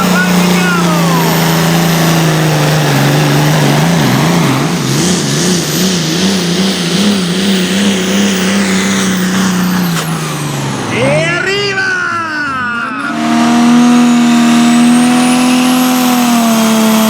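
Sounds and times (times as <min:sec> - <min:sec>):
tractor engine revving hard: 0:00.0 - 0:17.0.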